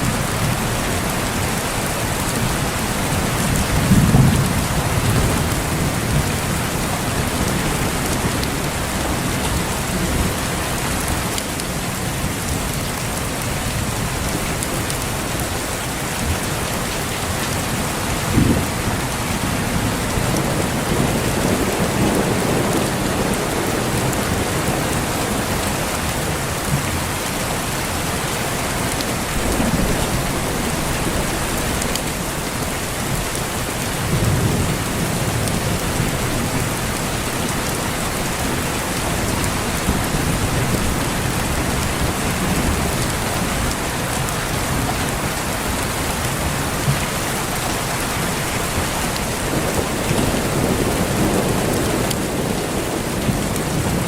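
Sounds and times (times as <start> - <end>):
thunder rumbling: 0.0 - 11.3, 16.2 - 54.0
heavy rain: 0.0 - 54.0.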